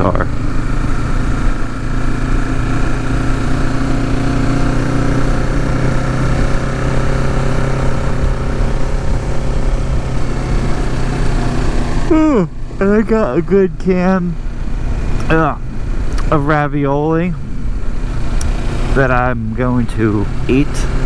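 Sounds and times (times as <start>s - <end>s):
motorcycle engine running steadily: 0.0s - 21.0s.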